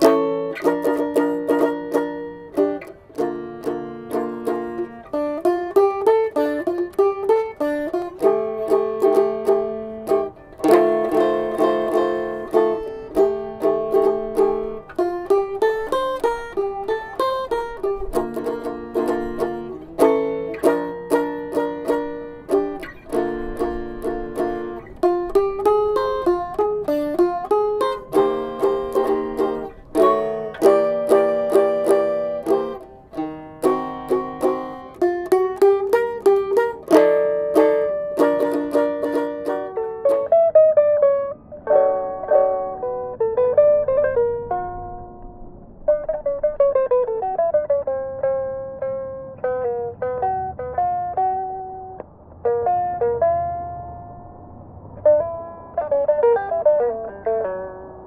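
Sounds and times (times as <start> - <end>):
banjo picking: 0.0 - 58.0
stringed instrument strummed: 0.0 - 58.0.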